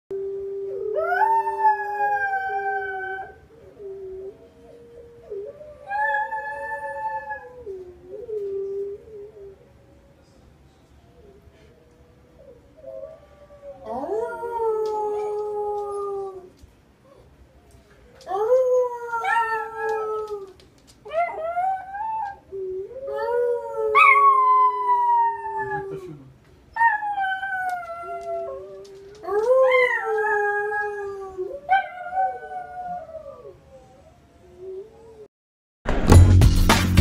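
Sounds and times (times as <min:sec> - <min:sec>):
puppy howling: 0:00.6 - 0:10.4, 0:11.2 - 0:26.1, 0:26.8 - 0:35.3.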